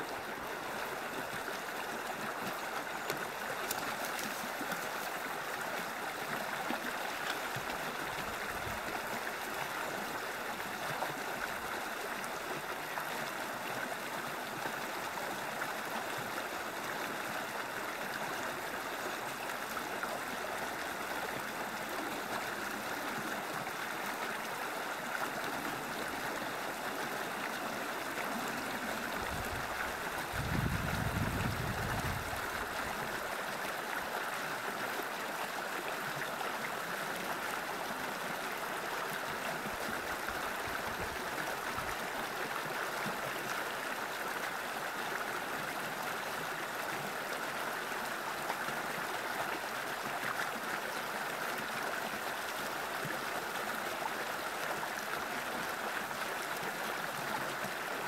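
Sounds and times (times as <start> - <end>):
creek splashing over rocks: 0.0 - 58.0.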